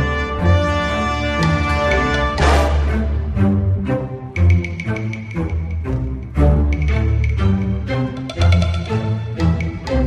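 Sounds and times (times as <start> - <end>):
music with sustained tones and bass: 0.0 - 10.0.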